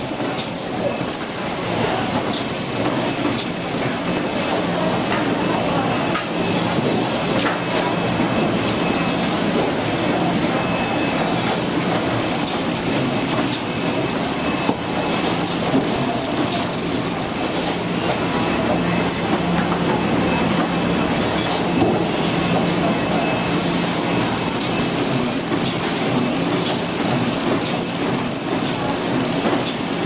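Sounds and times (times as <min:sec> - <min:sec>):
packaging machine running: 0:00.0 - 0:07.4, 0:08.5 - 0:20.4, 0:22.6 - 0:30.0.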